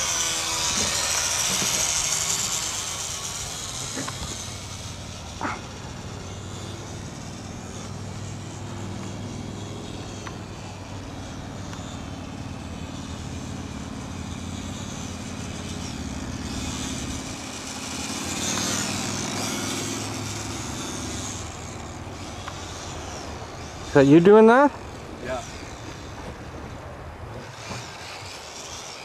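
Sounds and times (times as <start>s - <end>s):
model airplane motor buzzing: 0.0s - 29.0s.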